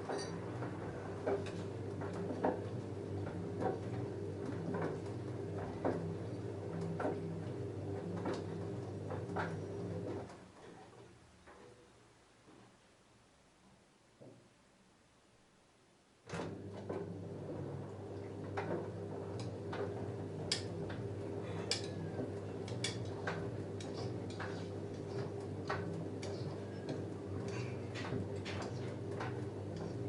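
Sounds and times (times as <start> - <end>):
washing machine motor hum: 0.0 - 10.6, 16.2 - 30.0.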